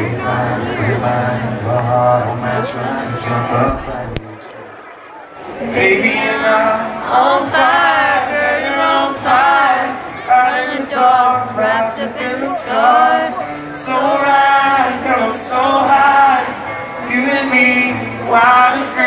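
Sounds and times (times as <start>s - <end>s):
man singing with guitar: 0.0s - 19.0s.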